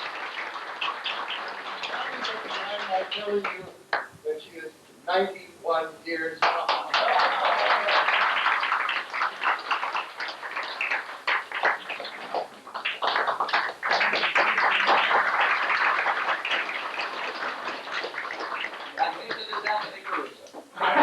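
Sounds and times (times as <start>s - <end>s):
audience applauding: 0.0s - 4.1s, 6.4s - 21.0s.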